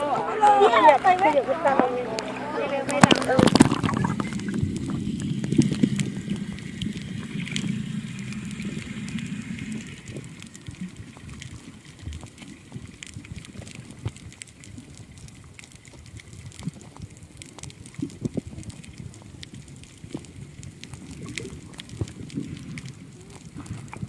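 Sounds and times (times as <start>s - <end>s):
low rumbling wash: 0.0s - 24.0s
water sloshing and gurgling: 0.0s - 24.0s
faint clicks: 0.9s - 24.0s.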